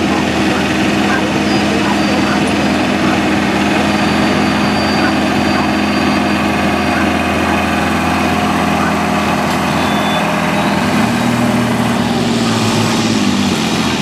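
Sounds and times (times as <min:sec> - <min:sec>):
diesel tractor engine revving: 0:00.0 - 0:14.0.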